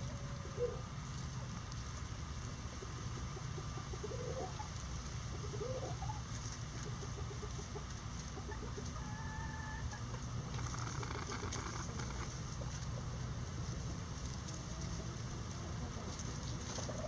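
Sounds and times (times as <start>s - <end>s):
chickens clucking: 0.0s - 17.0s
low background rumble: 0.0s - 17.0s.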